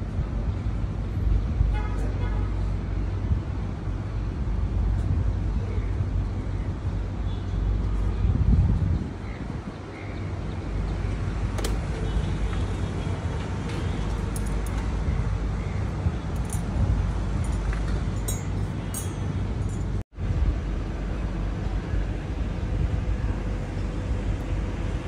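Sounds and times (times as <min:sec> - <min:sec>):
city street traffic rumble: 0:00.0 - 0:25.0
wind rumble on microphone: 0:00.0 - 0:25.0.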